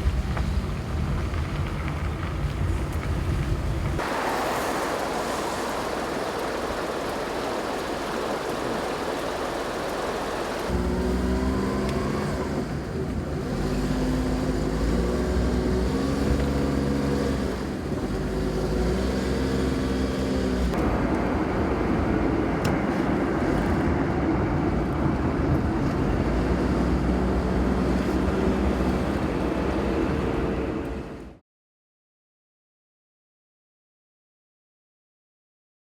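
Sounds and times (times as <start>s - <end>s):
low engine hum: 0.0s - 31.4s
road and wind noise: 0.0s - 31.4s.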